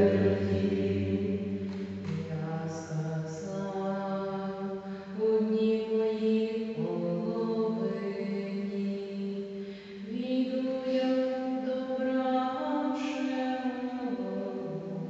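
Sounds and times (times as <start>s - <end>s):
slow liturgical singing: 0.0s - 15.0s.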